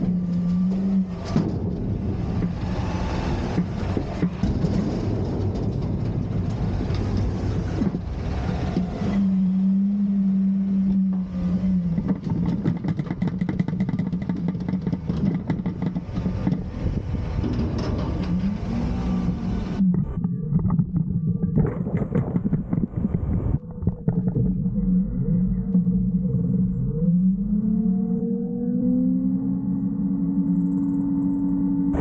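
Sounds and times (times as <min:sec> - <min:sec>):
garbage truck engine running: 0:00.0 - 0:26.8.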